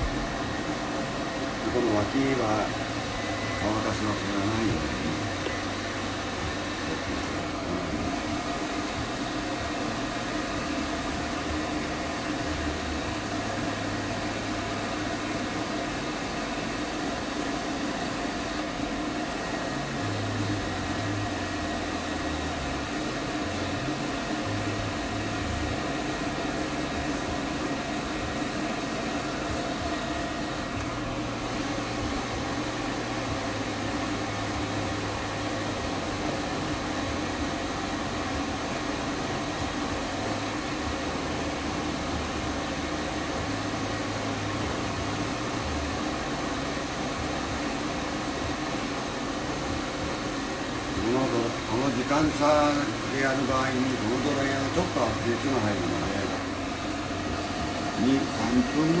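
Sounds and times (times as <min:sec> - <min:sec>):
pet dryer blowing air: 0:00.0 - 0:59.0.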